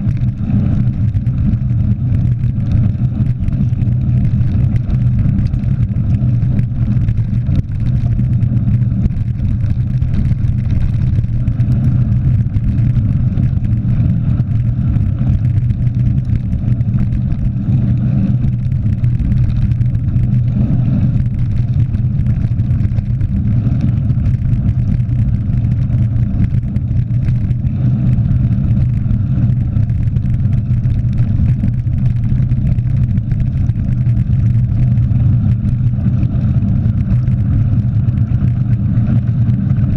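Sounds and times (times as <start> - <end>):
bike tyres rolling on gravel: 0.0 - 39.9
wind rushing on camera: 0.0 - 39.9.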